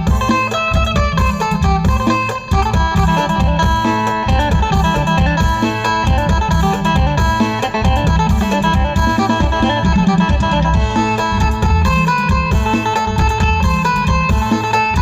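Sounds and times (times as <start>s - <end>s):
plucked lute melody: 0.0s - 15.0s
steady driving low beat: 0.0s - 15.0s.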